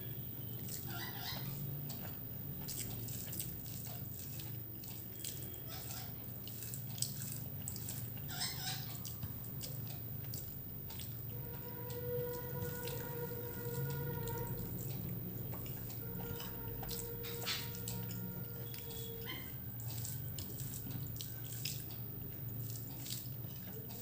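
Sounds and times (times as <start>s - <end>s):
person chewing: 0.0s - 24.0s
steady low hum: 0.0s - 24.0s.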